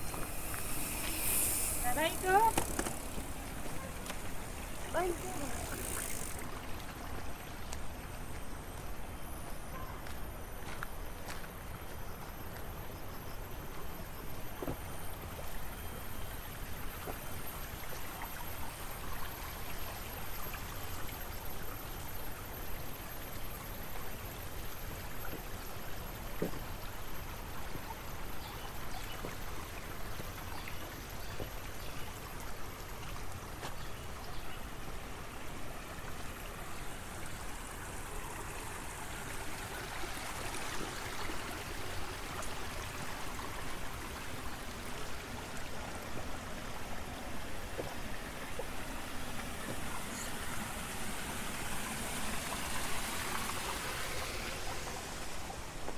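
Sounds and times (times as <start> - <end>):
water rushing in a channel: 0.0 - 9.4, 13.7 - 55.9.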